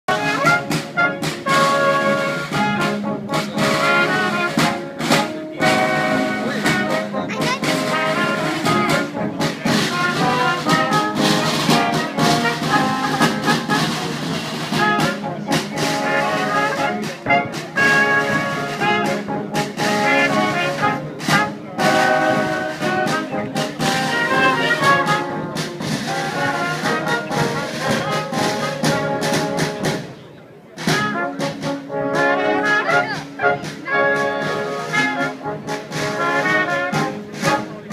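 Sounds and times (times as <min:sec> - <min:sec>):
brass ensemble playing: 0:00.1 - 0:30.2, 0:30.8 - 0:37.9.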